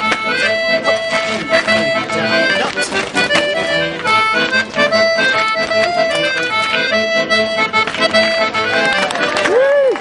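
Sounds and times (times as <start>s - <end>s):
sharp clicks from dancing: 0.0s - 9.6s
accordion playing dance tune: 0.0s - 10.0s.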